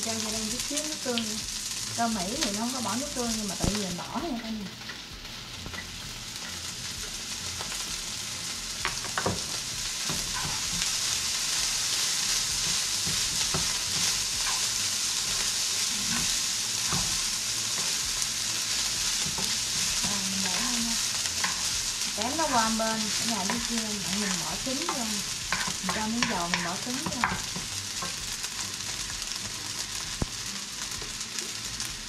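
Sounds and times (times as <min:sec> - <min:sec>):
rice sizzling in a hot pan: 0:00.0 - 0:32.0.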